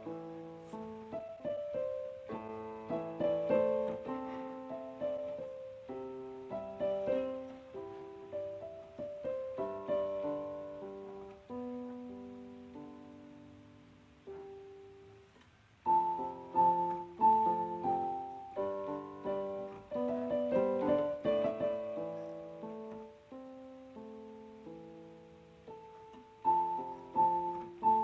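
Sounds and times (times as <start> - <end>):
slow piano melody: 0.0 - 28.0.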